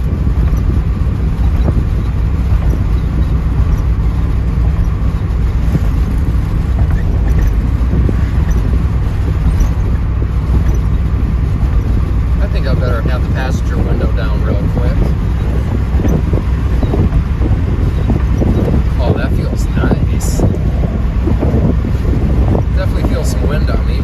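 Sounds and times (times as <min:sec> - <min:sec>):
car engine drone: 0:00.0 - 0:24.0
road noise: 0:00.0 - 0:24.0.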